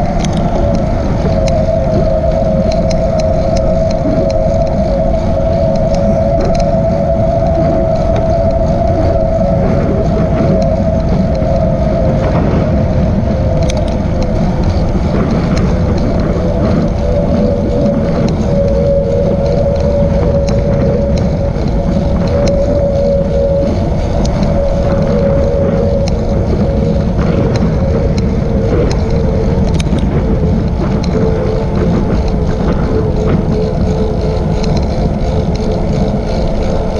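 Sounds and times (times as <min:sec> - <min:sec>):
faint ticks: 0:00.0 - 0:36.9
steady whine: 0:00.0 - 0:36.9
wind buffeting microphone: 0:00.0 - 0:36.9.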